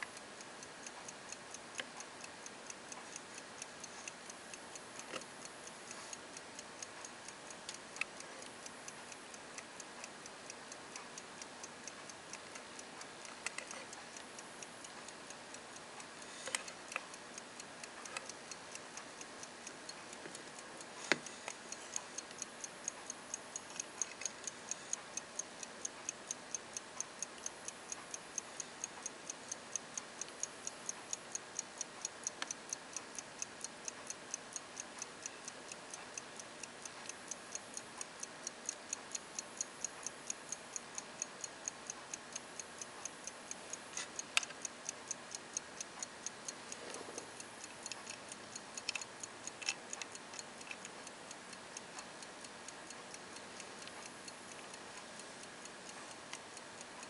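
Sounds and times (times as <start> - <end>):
pocket watch ticking: 0.0 - 57.0.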